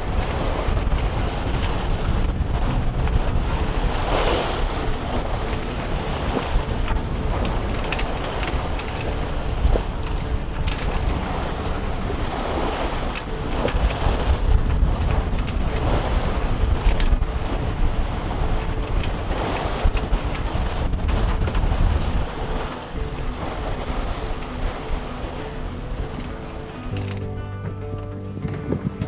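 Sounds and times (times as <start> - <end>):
waves splashing past hull: 0.0 - 29.0
wind buffeting microphone: 0.0 - 29.0.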